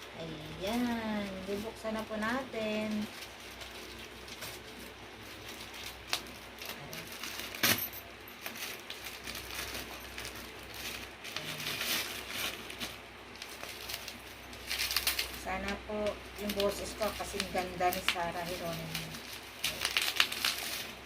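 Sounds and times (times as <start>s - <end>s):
packaging rustling: 0.4s - 21.0s.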